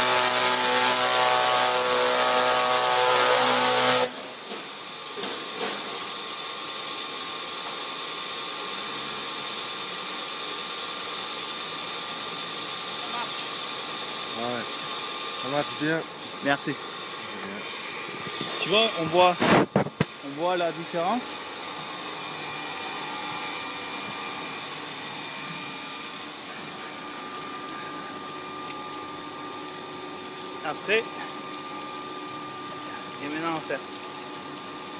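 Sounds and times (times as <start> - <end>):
pressure cleaner humming with whine: 0.0 - 34.9.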